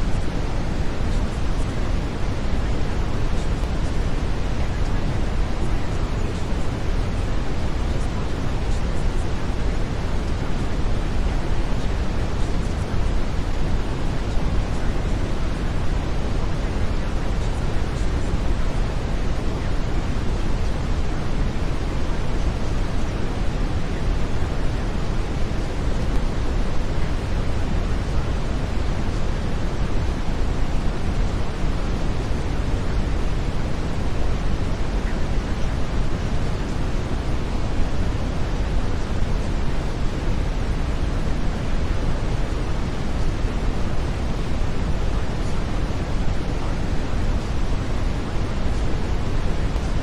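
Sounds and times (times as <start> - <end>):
brown noise hiss: 0.0 - 50.0.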